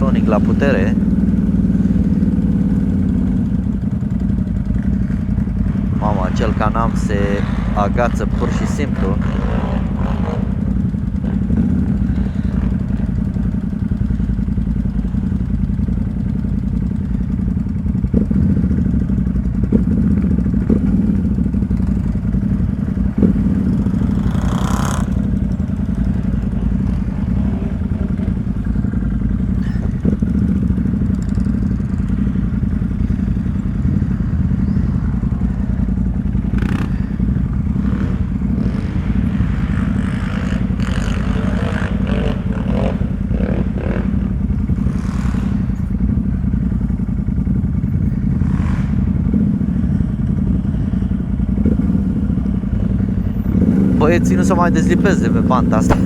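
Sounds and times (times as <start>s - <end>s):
atv engine running at low revs: 0.0s - 56.0s.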